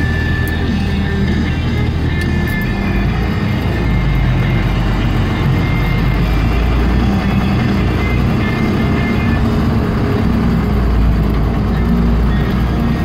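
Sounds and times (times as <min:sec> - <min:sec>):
radio playing music: 0:00.0 - 0:13.0
truck engine and road rumble: 0:00.0 - 0:13.0.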